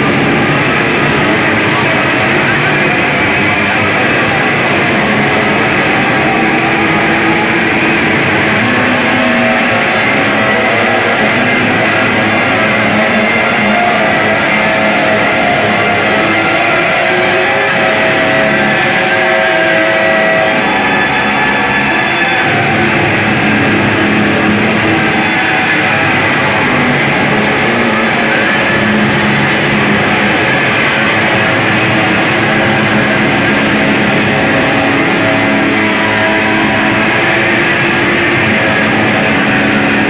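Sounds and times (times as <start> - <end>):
distorted guitar and electronic drone: 0.0 - 40.0.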